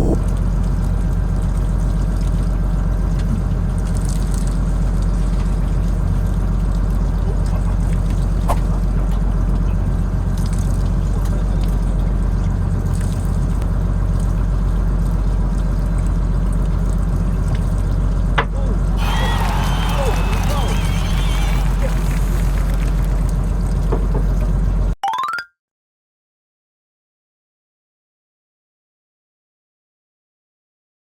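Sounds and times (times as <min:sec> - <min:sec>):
boat machinery humming: 0:00.0 - 0:24.9.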